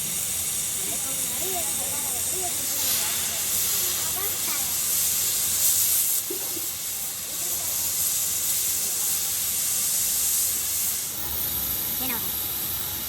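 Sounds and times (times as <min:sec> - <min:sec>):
high-pitched hiss: 0:00.0 - 0:13.0.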